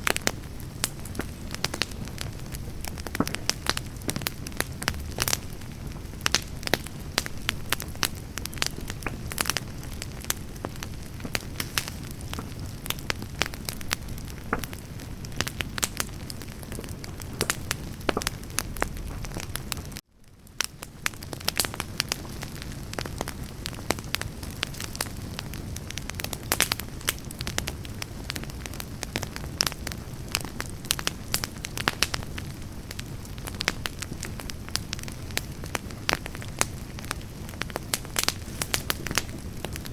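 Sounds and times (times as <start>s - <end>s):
campfire crackling and popping: 0.0s - 39.9s
low rumble of flame: 0.0s - 39.9s.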